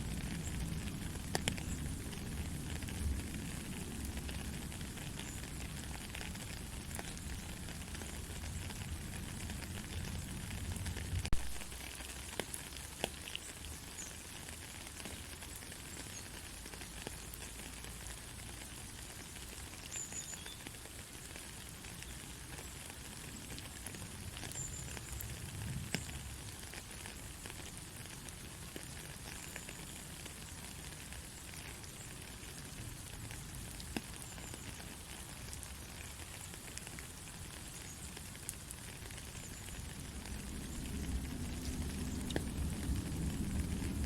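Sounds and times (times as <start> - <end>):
soft steady rain: 0.0 - 44.0.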